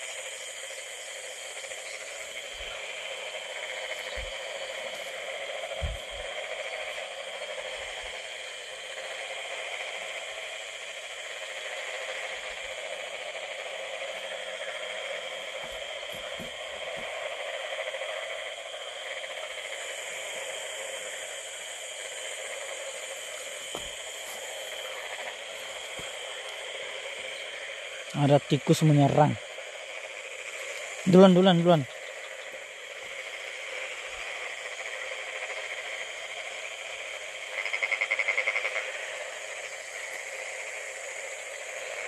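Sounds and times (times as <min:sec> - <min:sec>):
night insect chorus: 0:00.0 - 0:42.0.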